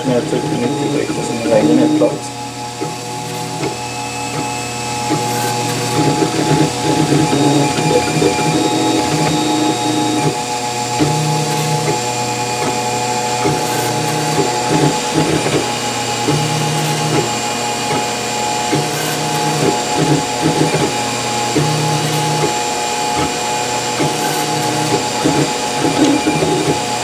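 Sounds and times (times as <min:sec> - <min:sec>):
steady higher hum: 0:00.0 - 0:27.0
stepper motors humming: 0:00.0 - 0:27.0.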